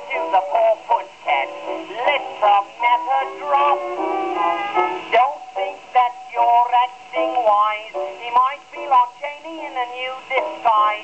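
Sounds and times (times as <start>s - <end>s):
dance band on old record: 0.0s - 11.0s.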